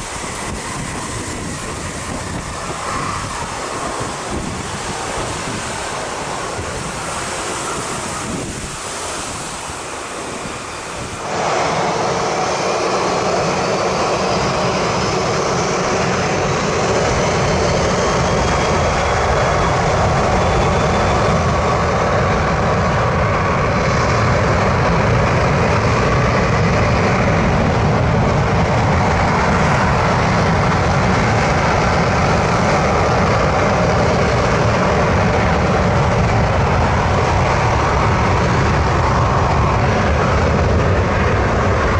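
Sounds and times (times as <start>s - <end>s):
jet engines at takeoff thrust: 0.0s - 41.9s
rising jet engine whine: 0.0s - 41.9s
wind: 0.0s - 41.9s.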